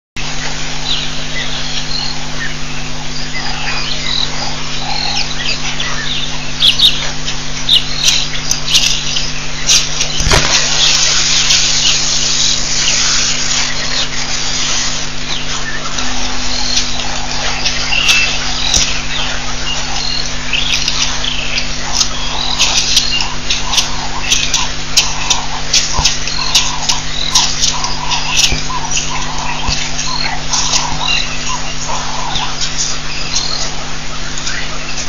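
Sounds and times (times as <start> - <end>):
birds chirping: 0.2 - 35.0
low hum: 0.2 - 35.0.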